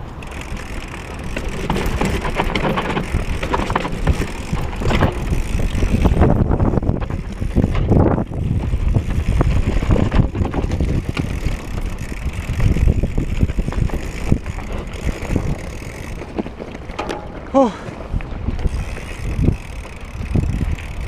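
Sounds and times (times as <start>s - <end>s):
bike rattling and knocking: 0.0s - 21.0s
bike tyres rumbling on dirt: 0.0s - 21.0s
wind noise on microphone: 0.0s - 21.0s.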